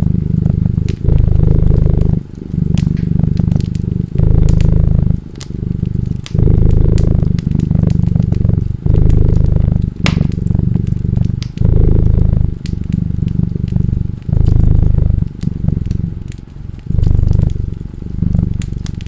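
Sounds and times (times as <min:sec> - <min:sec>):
cat purring loudly: 0:00.0 - 0:19.0
wood fire crackling: 0:00.0 - 0:19.0.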